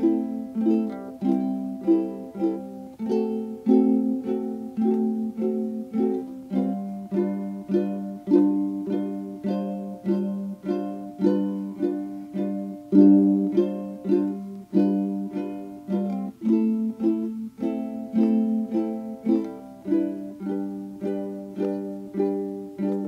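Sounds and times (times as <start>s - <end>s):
ukulele chords: 0.0s - 23.0s.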